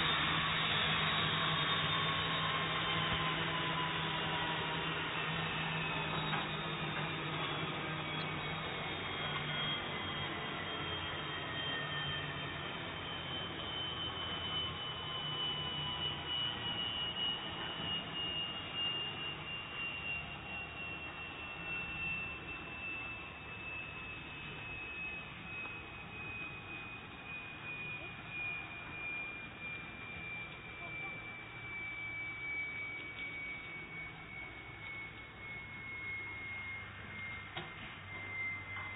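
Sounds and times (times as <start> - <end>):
jet engine turbine whine: 0.0 - 38.9
low hum: 0.0 - 38.9.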